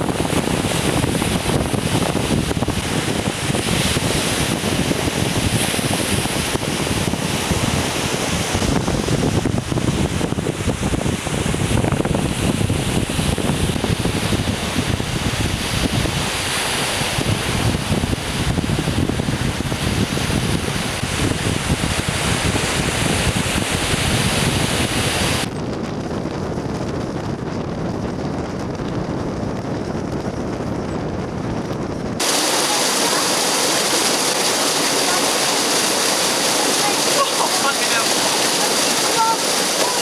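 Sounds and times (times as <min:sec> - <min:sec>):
ocean surf breaking: 0:00.0 - 0:25.7, 0:32.2 - 0:40.0
wind buffeting microphone: 0:00.0 - 0:40.0.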